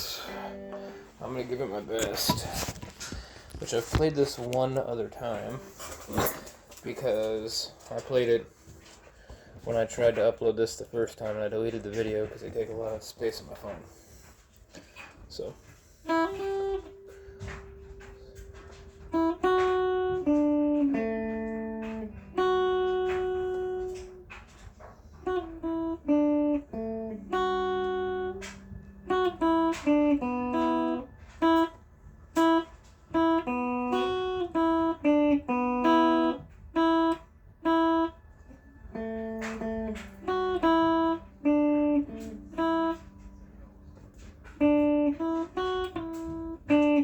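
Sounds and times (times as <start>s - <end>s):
electric guitar melody: 0.0s - 47.0s.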